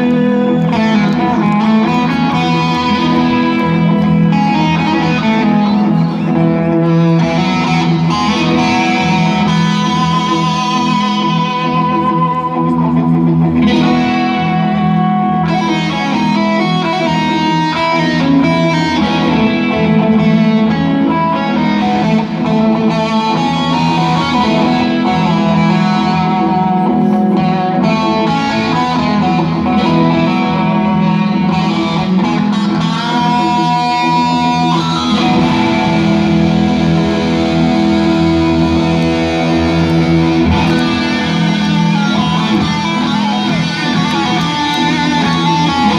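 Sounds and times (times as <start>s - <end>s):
amplified electric guitar lead: 0.0s - 45.9s.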